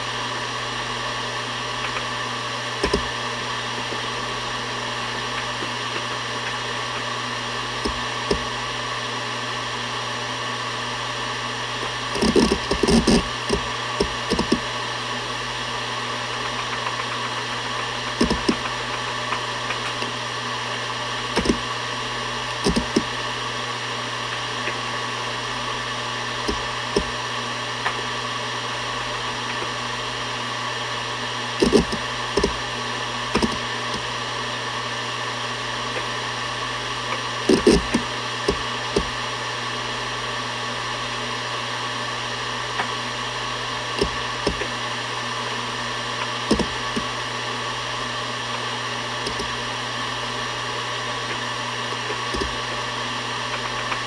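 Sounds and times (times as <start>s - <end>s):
hard drive seek clicks: 0.0s - 54.0s
hard drive spinning hum: 0.0s - 54.0s.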